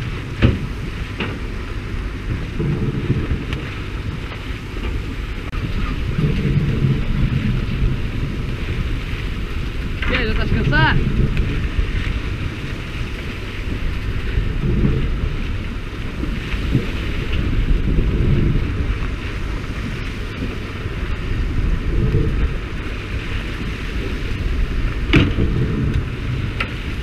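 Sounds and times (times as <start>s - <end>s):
boat engine running: 0.0s - 27.0s
water spraying alongside hull: 0.0s - 27.0s
wind buffeting microphone: 0.0s - 27.0s.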